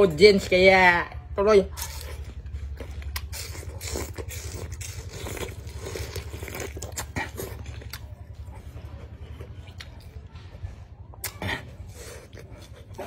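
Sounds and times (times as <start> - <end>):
person chewing crunchy fruit: 1.6 - 10.3, 11.2 - 13.0.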